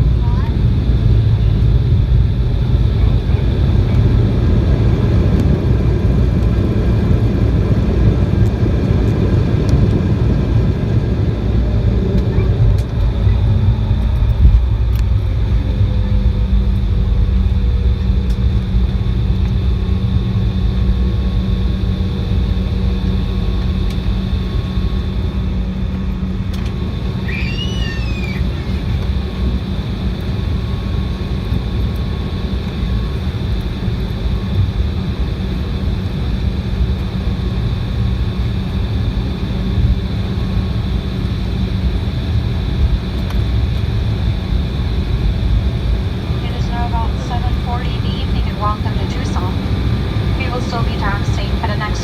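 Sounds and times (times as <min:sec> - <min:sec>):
jet engine rumble and rushing air: 0:00.0 - 0:52.0
steady low hum: 0:00.0 - 0:52.0.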